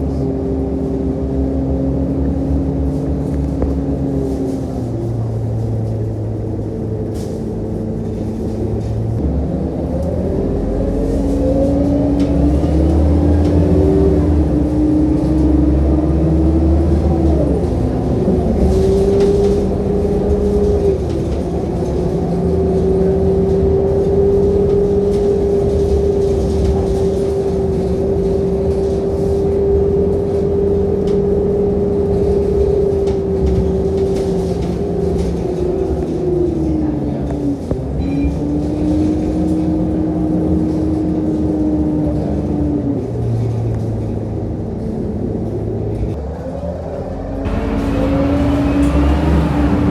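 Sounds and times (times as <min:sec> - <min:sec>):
bus diesel engine: 0:00.0 - 0:49.9.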